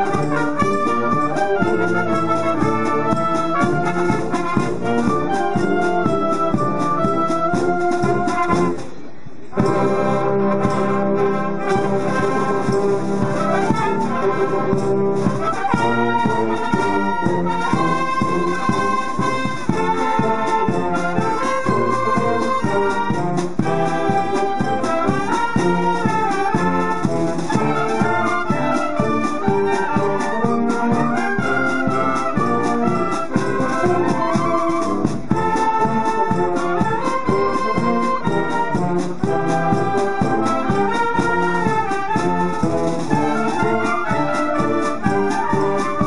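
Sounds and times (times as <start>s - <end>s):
wind band playing: 0.0s - 46.0s.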